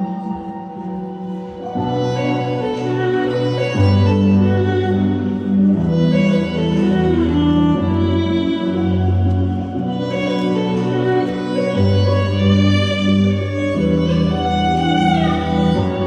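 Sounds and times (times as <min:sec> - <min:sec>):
bowed strings: 0:00.0 - 0:16.0.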